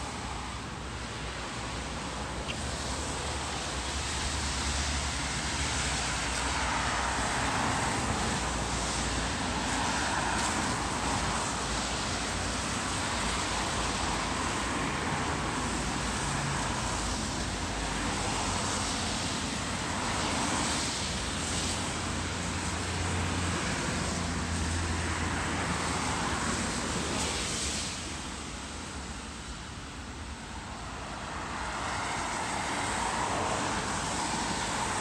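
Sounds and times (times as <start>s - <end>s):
tyres hissing on wet road: 0.0s - 35.0s.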